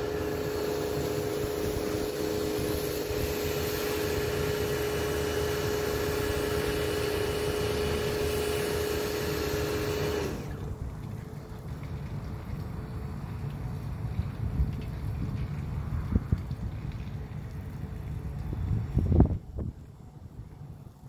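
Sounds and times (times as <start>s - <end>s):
wind rumble on microphone: 0.0s - 8.6s, 10.4s - 21.0s
steady mechanical hum: 0.0s - 21.0s.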